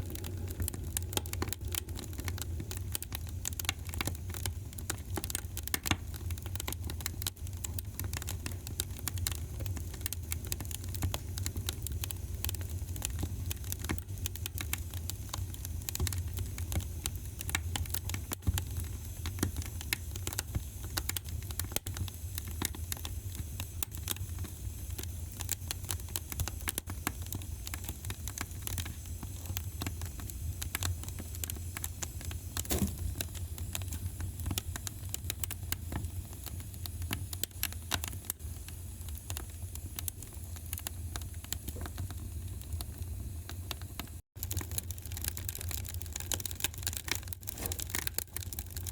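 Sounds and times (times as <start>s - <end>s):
low rumble of flames: 0.0s - 48.9s
wood fire crackling and popping: 0.0s - 48.9s.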